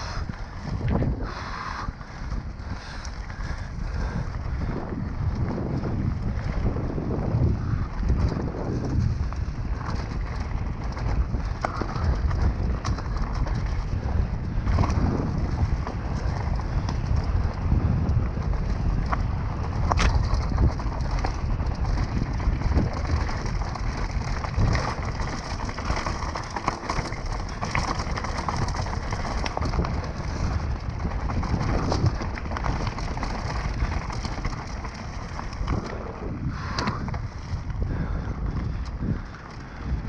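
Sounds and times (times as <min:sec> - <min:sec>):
bike rattling and knocking: 0:00.0 - 0:40.0
wind buffeting microphone: 0:00.0 - 0:40.0
tyres rumbling over dirt and stones: 0:03.1 - 0:40.0.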